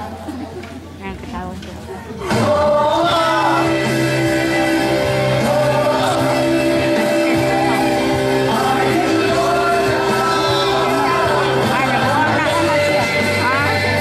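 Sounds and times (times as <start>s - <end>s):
worship song singing: 2.2s - 14.0s.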